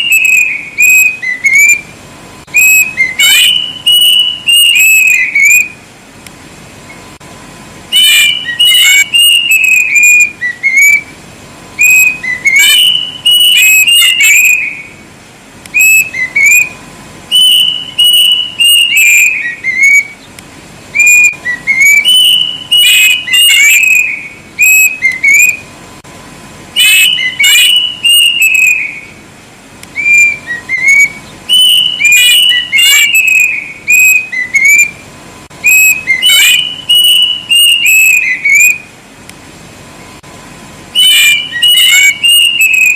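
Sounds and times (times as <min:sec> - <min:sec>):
cuckoo singing whistled notes: 0:00.0 - 0:05.8, 0:07.9 - 0:11.2, 0:11.8 - 0:15.0, 0:15.7 - 0:25.7, 0:26.8 - 0:29.2, 0:29.9 - 0:35.0, 0:35.6 - 0:38.9, 0:41.0 - 0:42.9
faint steady hum: 0:00.0 - 0:42.9.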